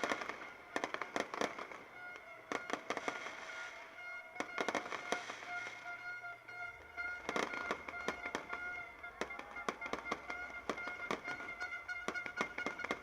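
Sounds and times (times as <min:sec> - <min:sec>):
fireworks cracks and pops: 0:00.0 - 0:06.2, 0:06.8 - 0:13.0.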